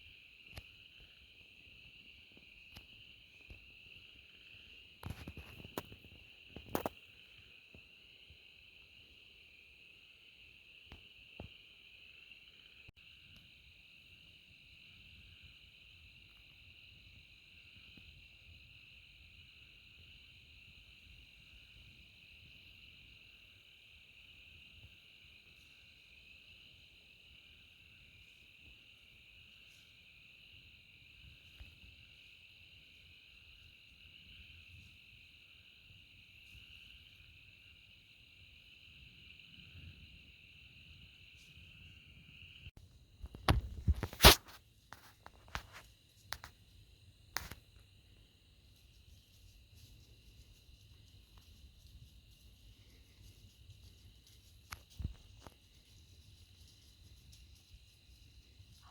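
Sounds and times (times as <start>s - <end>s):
night insects trilling: 0.0s - 58.9s.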